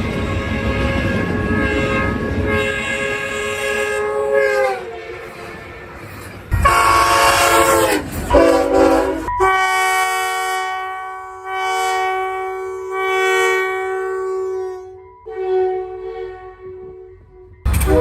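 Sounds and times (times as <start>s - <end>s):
train horn chords: 0.1s - 5.9s, 6.5s - 18.0s.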